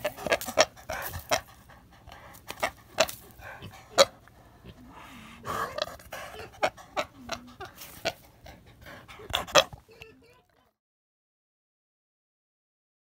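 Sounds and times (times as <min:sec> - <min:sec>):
pig grunting: 0:00.0 - 0:10.6
pig sniffing and snuffling: 0:00.0 - 0:10.7.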